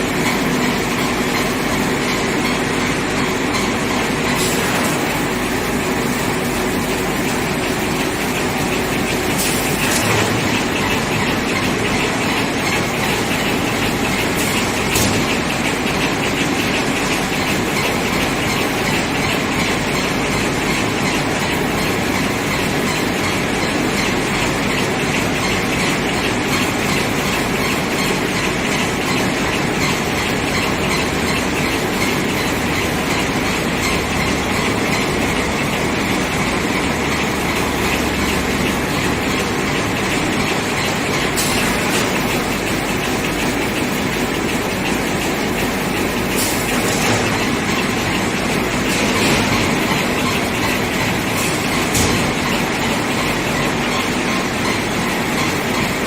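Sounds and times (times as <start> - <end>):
machine clattering: 0.0 - 56.0.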